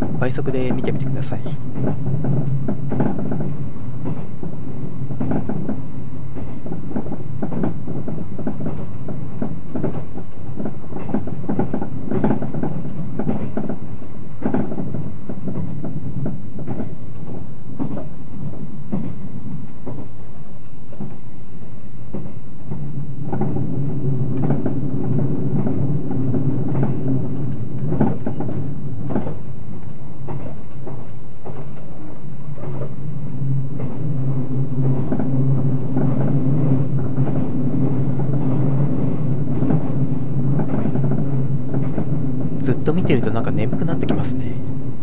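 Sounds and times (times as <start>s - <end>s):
wheels clacking over rail joints: 0.0s - 20.2s, 22.1s - 33.0s, 34.8s - 42.6s
train cabin rumble and hum: 0.0s - 45.0s.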